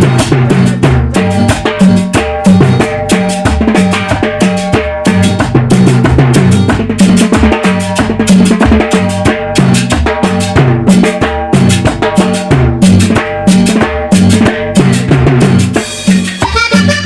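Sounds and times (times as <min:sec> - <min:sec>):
drum kit beat: 0:00.0 - 0:17.0
walking bass line: 0:00.0 - 0:17.0.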